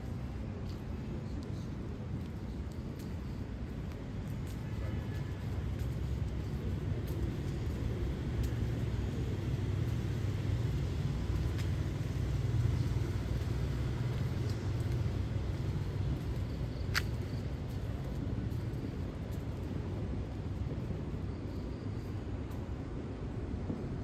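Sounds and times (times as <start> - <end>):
street traffic engine noise: 0.0 - 24.0.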